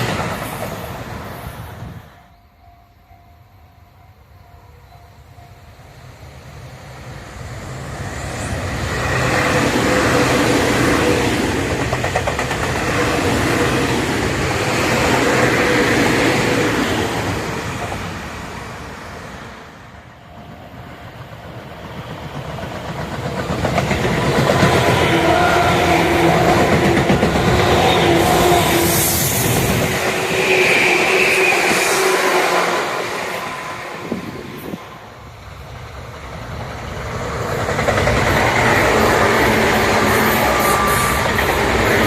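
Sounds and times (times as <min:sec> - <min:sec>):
electric train passing: 0:00.0 - 0:42.0
train approaching: 0:00.0 - 0:42.0.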